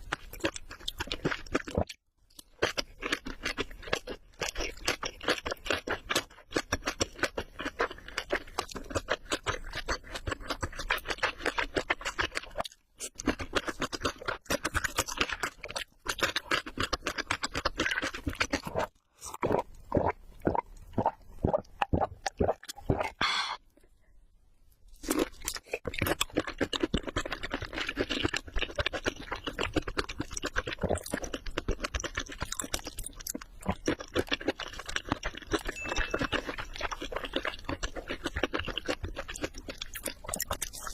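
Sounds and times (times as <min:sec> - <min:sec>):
chewing crispy food crunches: 0:00.0 - 0:23.2, 0:24.9 - 0:40.9.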